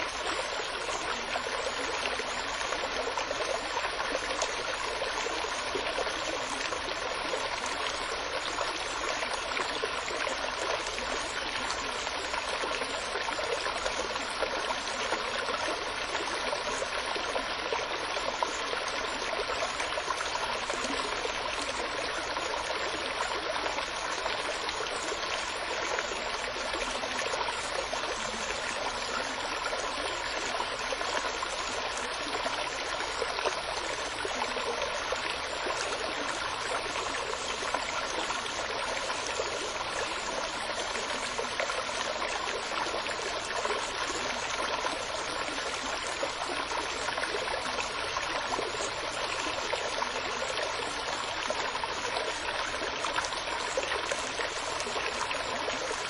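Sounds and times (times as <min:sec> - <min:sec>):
running water babbling: 0:00.0 - 0:56.0.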